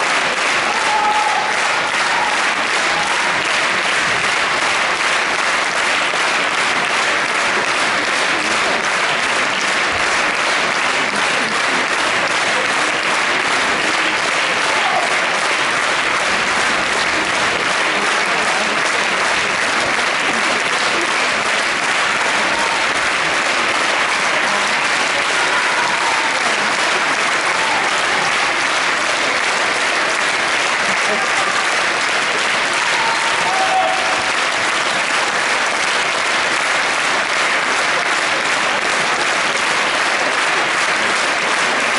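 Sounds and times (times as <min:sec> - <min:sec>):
audience applauding: 0:00.0 - 0:41.9.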